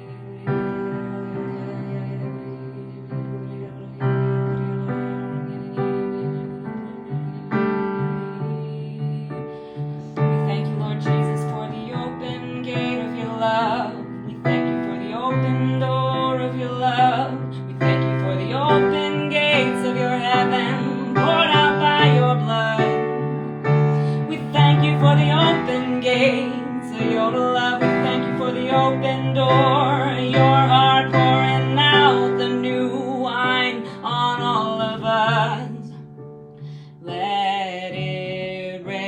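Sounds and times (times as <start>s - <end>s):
person singing wordless melody: 0.0s - 39.0s.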